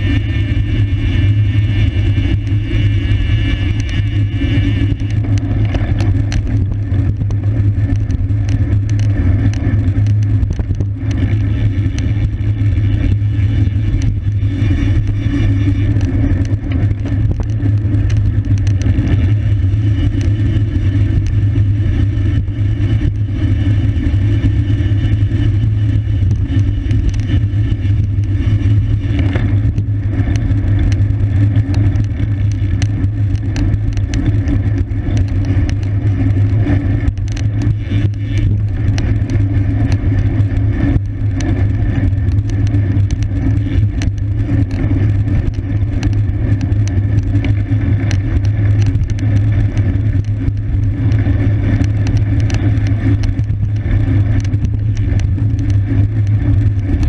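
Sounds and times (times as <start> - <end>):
bicycle tyre road noise: 0.0 - 57.0
small ticks and rattles: 0.0 - 57.0
wind rumble on microphone: 0.0 - 57.0.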